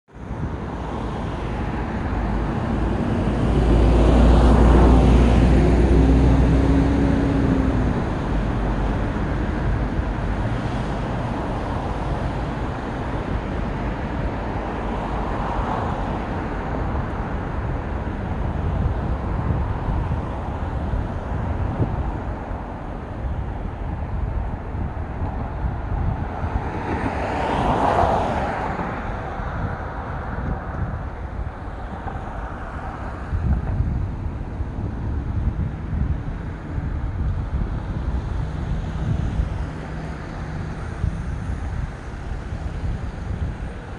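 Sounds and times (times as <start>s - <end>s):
road traffic noise: 0.0s - 43.9s
vehicle passing with low rumble: 0.1s - 43.9s.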